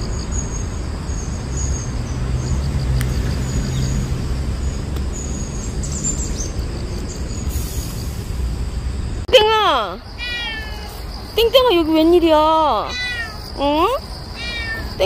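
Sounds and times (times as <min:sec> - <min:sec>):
distant traffic rumble: 0:00.0 - 0:15.0
small birds chirping: 0:00.0 - 0:15.0.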